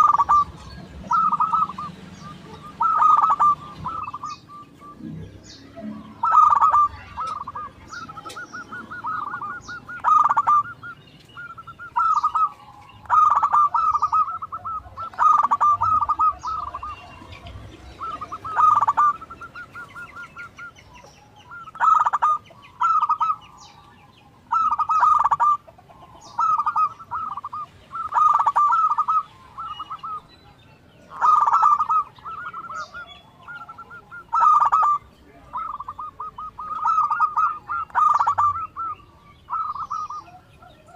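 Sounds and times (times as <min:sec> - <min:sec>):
doves cooing: 0:00.0 - 0:40.9
faint high bird chirps: 0:00.0 - 0:40.9.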